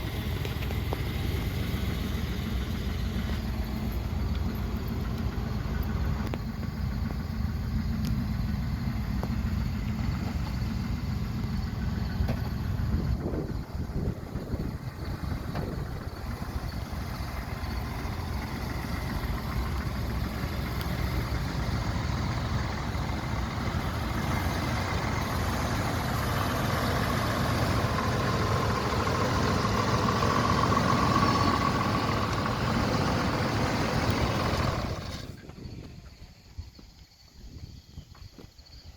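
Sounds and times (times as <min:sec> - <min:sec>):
pickup engine running: 0:00.0 - 0:37.3.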